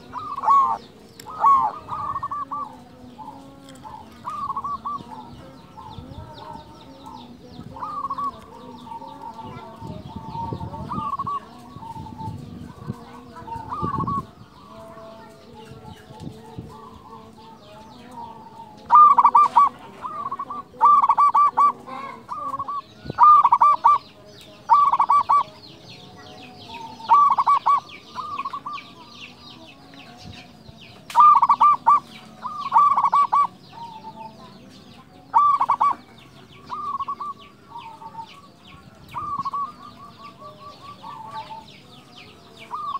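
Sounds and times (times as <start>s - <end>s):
dove cooing: 0.0s - 17.6s, 18.2s - 25.6s, 26.6s - 29.2s, 31.1s - 34.4s, 35.3s - 41.7s, 42.6s - 42.9s
small birds chirping: 0.0s - 42.9s.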